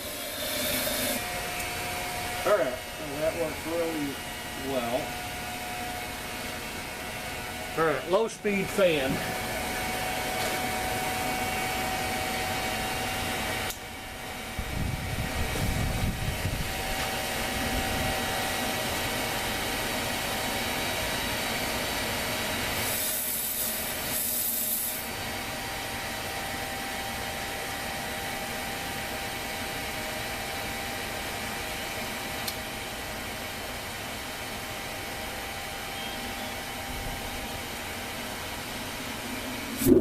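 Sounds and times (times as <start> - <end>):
furnace burner rushing: 0.0 - 40.0.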